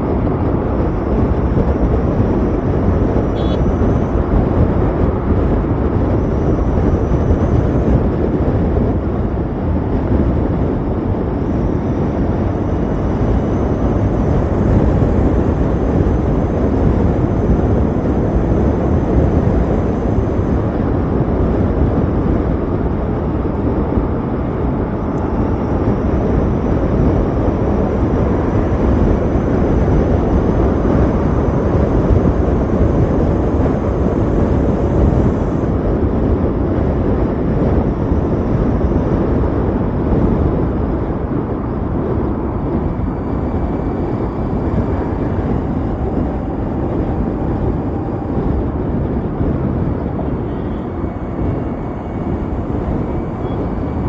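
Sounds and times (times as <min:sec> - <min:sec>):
scooter road noise: 0:00.0 - 0:54.0
wind rush: 0:00.0 - 0:54.0.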